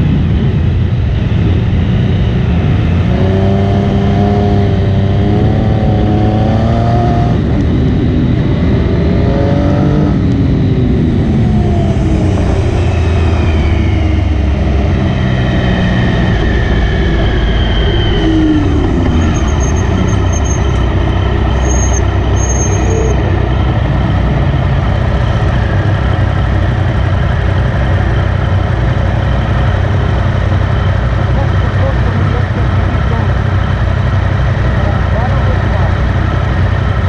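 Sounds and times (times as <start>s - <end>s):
motorcycle engine slowing and idling: 0.0s - 37.0s.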